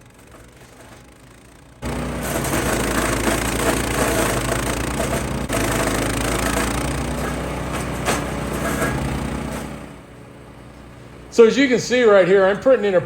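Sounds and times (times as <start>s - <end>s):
wood chipper running: 0.0s - 13.0s.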